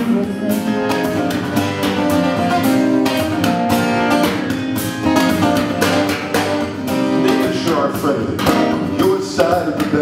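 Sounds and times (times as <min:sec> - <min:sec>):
strummed guitar chords: 0:00.0 - 0:10.0.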